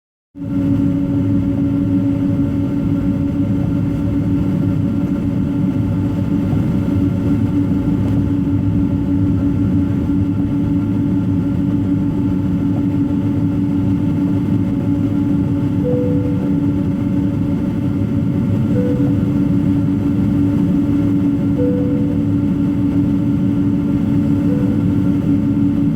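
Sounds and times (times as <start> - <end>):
jet engine cabin drone: 0.4 - 25.9.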